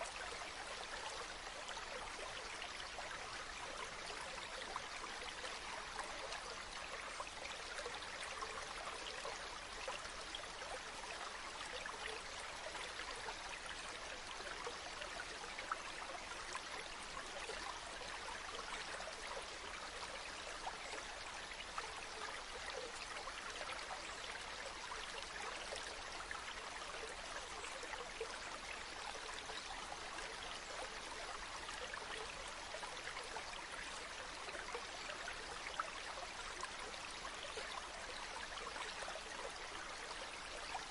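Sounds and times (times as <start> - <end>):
stream babbling: 0.0 - 40.9.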